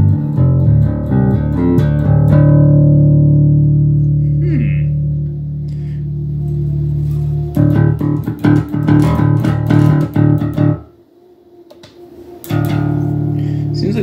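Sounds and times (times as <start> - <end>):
overdriven electric bass: 0.0 - 10.9, 12.4 - 14.0.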